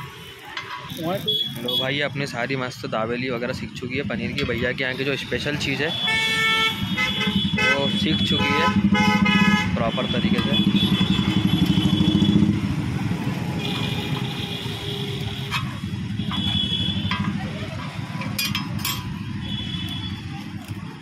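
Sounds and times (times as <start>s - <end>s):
street traffic: 0.0s - 21.0s
motorcycle engines running: 3.1s - 21.0s.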